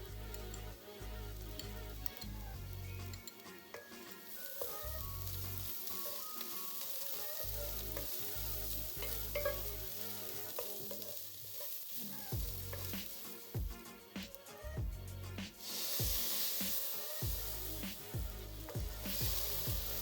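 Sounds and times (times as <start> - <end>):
food sizzling in butter: 0.0 - 20.0.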